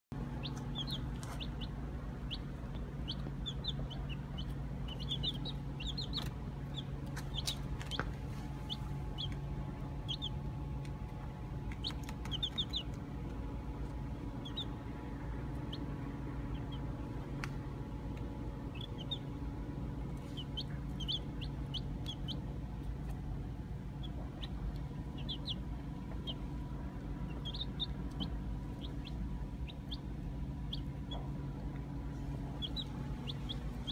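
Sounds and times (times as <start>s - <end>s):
steady low hum: 0.1s - 33.9s
baby chicks peeping: 0.2s - 33.9s.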